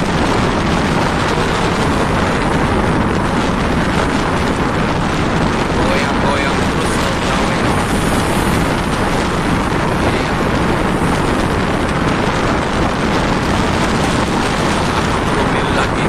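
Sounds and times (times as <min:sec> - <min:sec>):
sea noise: 0:00.0 - 0:16.0
wind buffeting microphone: 0:00.0 - 0:16.0
wind rushing: 0:00.0 - 0:16.0.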